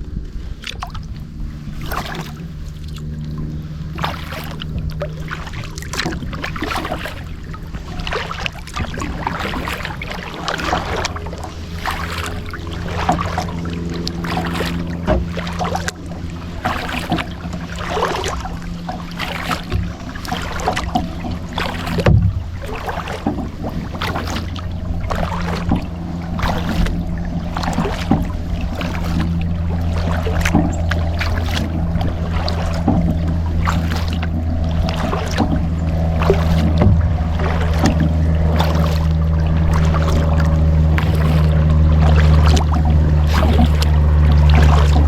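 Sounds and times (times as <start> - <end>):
paddle strokes splashing in water: 0.0 - 45.0
steady low hum: 0.0 - 45.0.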